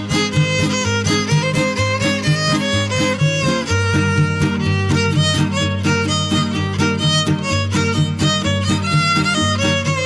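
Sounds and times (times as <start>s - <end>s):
strummed guitars: 0.0s - 10.0s
violin playing quick melody: 0.0s - 10.0s.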